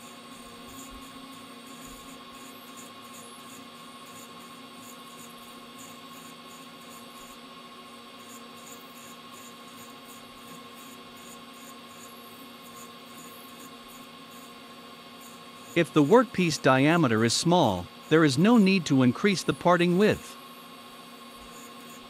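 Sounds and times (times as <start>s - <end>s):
metal lathe humming and whining: 0.0s - 22.0s.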